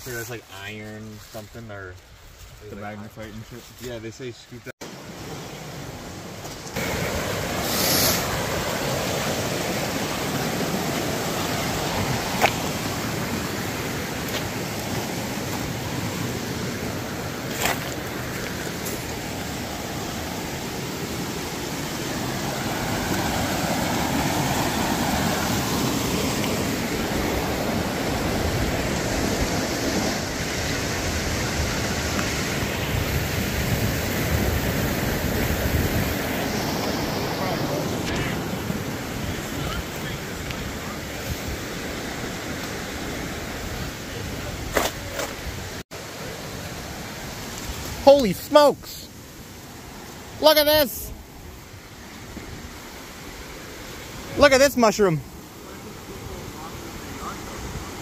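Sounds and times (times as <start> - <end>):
river rushing over stones: 4.8 - 58.0.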